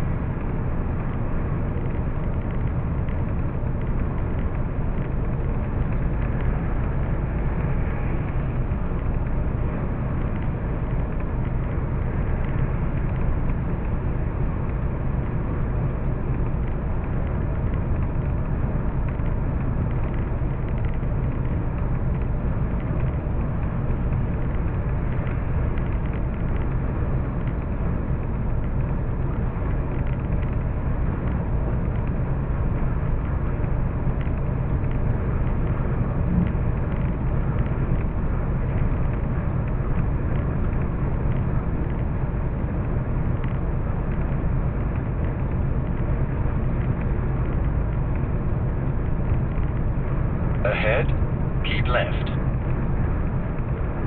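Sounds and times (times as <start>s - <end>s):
constant low hum: 0.0s - 54.0s
vehicle engine and road noise: 0.0s - 54.0s.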